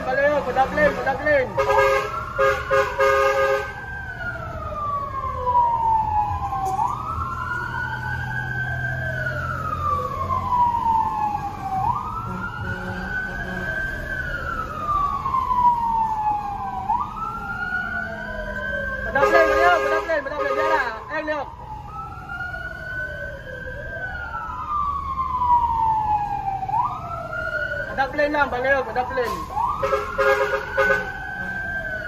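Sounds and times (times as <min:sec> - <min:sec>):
fire truck siren wailing: 0:00.0 - 0:32.0
second siren wail: 0:00.0 - 0:32.0.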